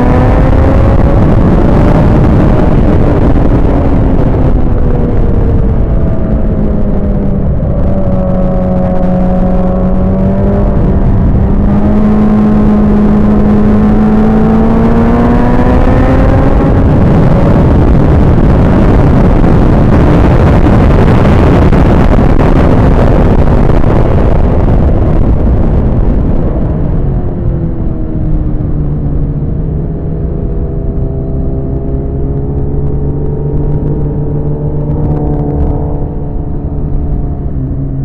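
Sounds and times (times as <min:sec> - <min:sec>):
motorcycle engine running hard: 0:00.0 - 0:38.0.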